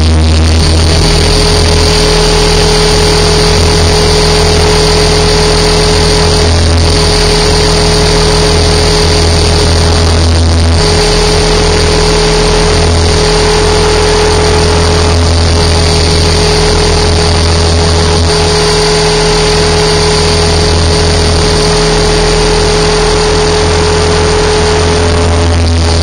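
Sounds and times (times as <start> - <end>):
motor and gear whine: 0.0 - 26.0
rotor buzz: 0.0 - 26.0.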